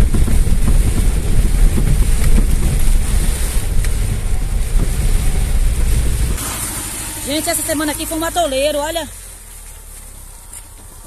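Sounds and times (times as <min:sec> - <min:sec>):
car engine and tyres rumbling: 0:00.0 - 0:11.0
rain on car roof: 0:00.0 - 0:11.0.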